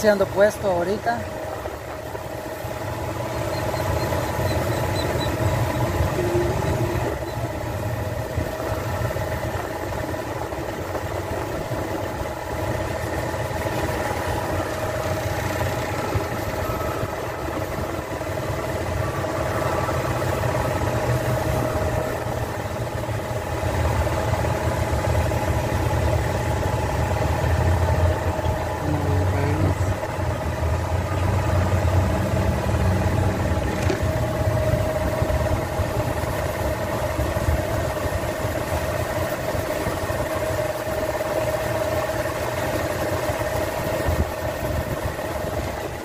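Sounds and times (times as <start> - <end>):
air-conditioning compressor running: 0.0 - 46.0
car engine idling: 0.0 - 46.0.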